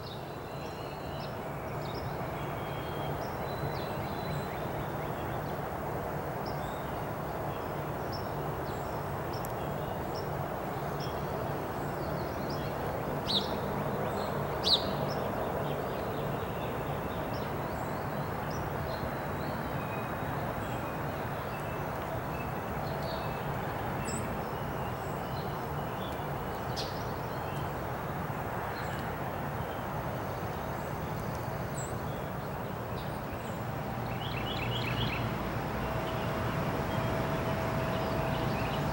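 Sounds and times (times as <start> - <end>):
distant traffic hum: 0.0 - 38.9
songbirds chirping: 0.0 - 38.9.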